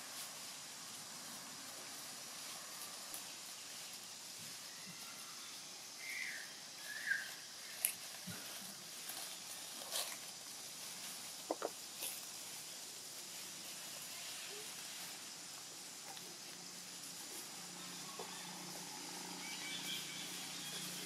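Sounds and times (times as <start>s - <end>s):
dry leaves crackling and rustling: 0.0s - 21.0s
steady faint hiss: 0.0s - 21.0s.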